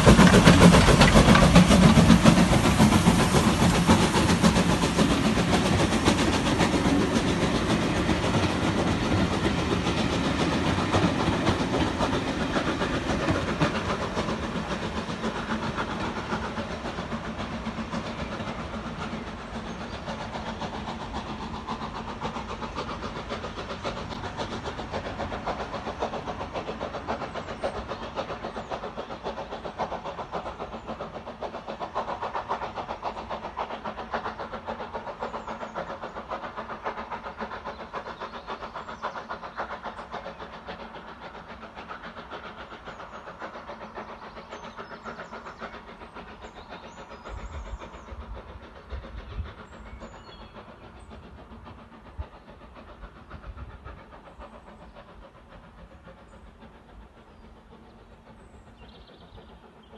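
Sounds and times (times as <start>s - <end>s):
steam train running: 0.0s - 59.9s.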